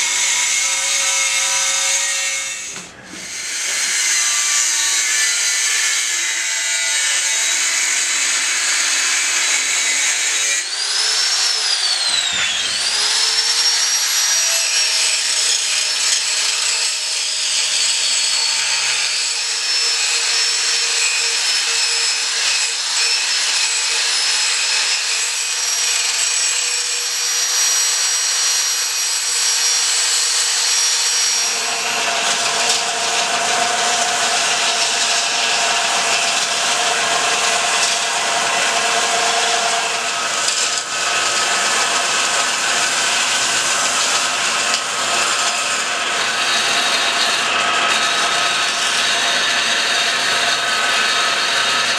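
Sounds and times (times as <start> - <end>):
angle grinder grinding steel: 0.0 - 51.9
steel being filed by hand: 0.0 - 51.9.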